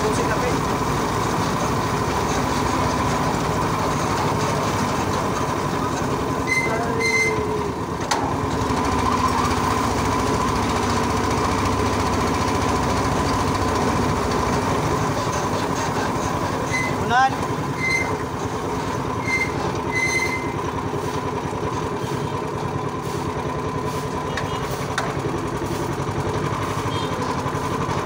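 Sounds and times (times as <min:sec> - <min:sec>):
pedicab rattling on concrete: 0:00.0 - 0:28.0.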